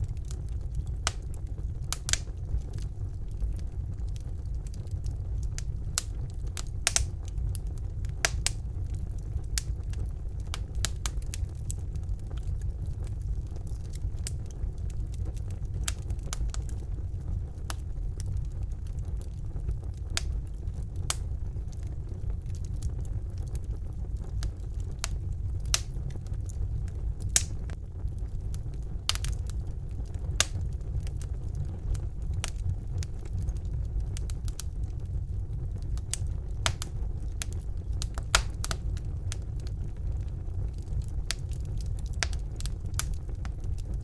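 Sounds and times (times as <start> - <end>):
fire crackling and popping: 0.0 - 44.0
fire rumbling: 0.0 - 44.0.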